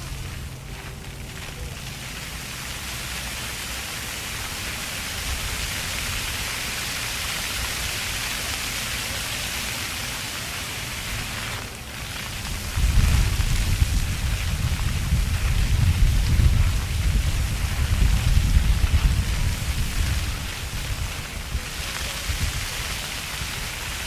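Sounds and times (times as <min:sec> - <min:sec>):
fountain jets splashing on pavement: 0:00.0 - 0:24.0.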